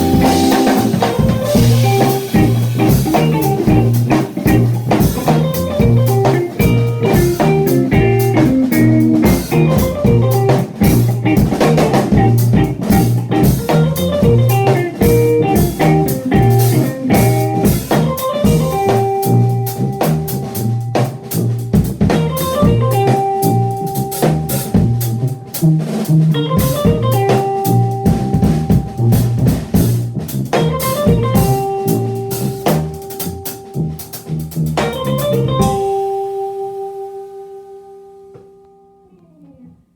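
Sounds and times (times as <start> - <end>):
tuba bass line: 0.0 - 36.0
drum kit: 0.0 - 38.6
guitar notes: 0.0 - 39.9.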